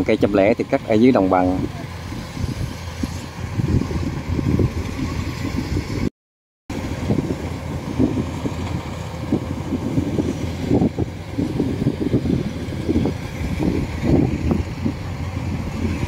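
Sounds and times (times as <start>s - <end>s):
combine harvester running: 0.0s - 6.1s, 6.7s - 16.0s
wind buffeting microphone: 0.0s - 6.1s, 6.7s - 16.0s.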